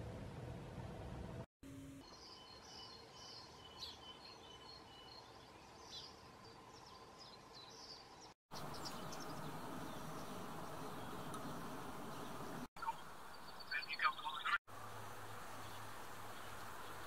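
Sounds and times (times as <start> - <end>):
songbirds chirping: 2.0 - 17.0.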